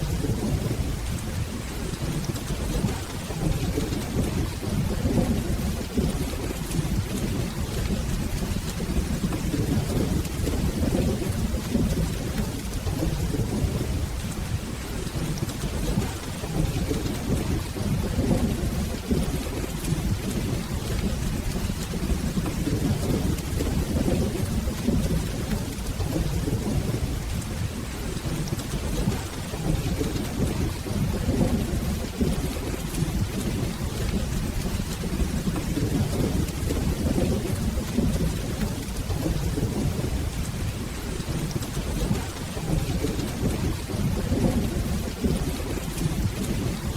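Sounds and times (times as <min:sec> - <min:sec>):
rolling thunder rumble: 0:00.0 - 0:46.9
steady rain: 0:00.0 - 0:46.9
ticks of raindrops: 0:00.0 - 0:46.9.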